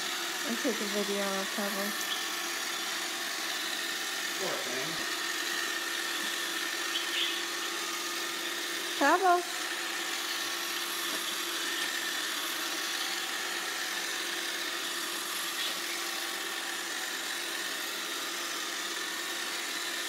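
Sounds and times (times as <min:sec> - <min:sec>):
robot vacuum motor hum: 0:00.0 - 0:20.0.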